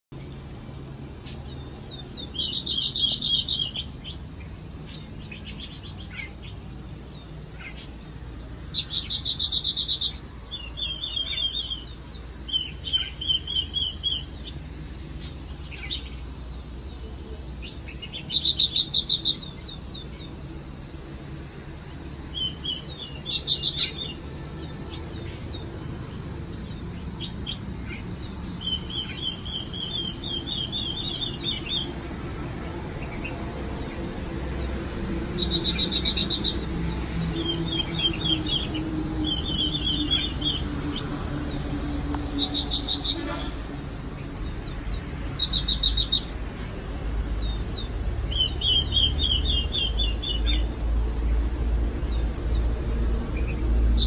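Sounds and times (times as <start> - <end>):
songbirds chirping and singing: 0.2 - 54.0.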